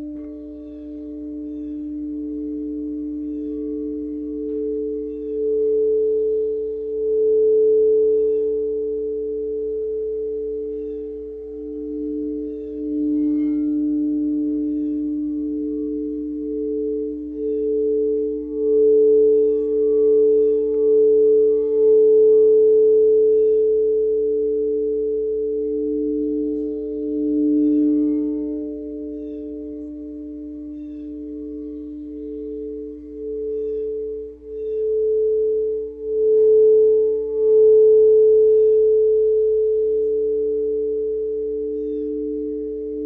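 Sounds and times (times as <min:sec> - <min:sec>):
ringing meditation drone: 0:00.0 - 0:43.0.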